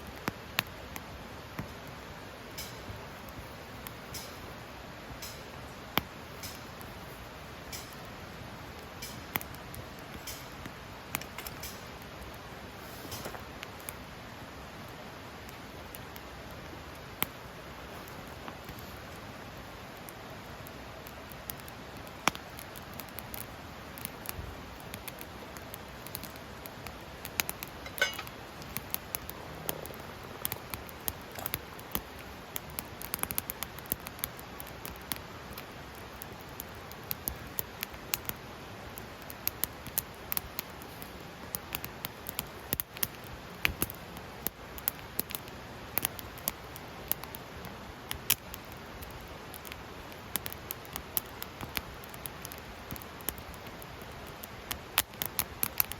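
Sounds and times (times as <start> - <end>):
faint steady hiss: 0.0 - 55.9
wood fire crackling: 0.0 - 55.9.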